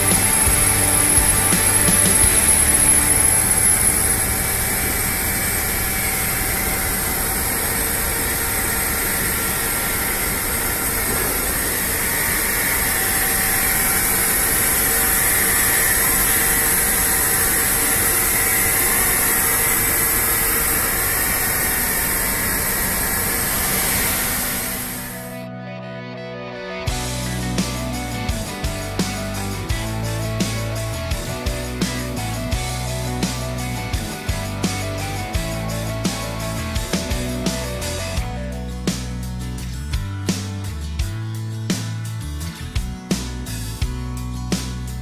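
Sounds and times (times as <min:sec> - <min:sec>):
machine hissing: 0:00.0 - 0:25.4, 0:26.9 - 0:38.3.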